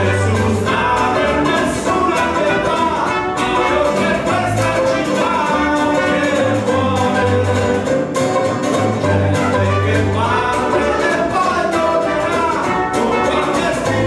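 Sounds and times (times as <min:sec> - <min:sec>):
acoustic guitar strumming: 0:00.0 - 0:14.0
banjo: 0:00.0 - 0:14.0
double bass: 0:00.0 - 0:14.0
men singing: 0:00.0 - 0:14.0
trumpet: 0:00.0 - 0:14.0.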